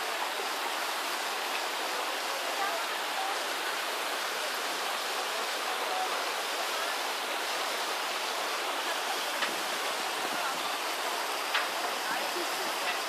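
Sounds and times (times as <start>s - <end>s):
stream flowing over boulders: 0.0s - 13.0s.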